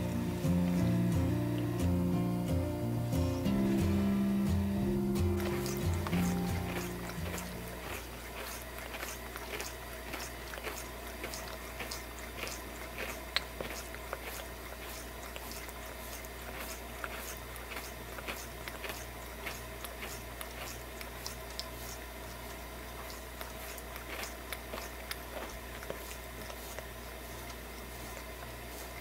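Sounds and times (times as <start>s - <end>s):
cat licking: 5.2s - 29.0s.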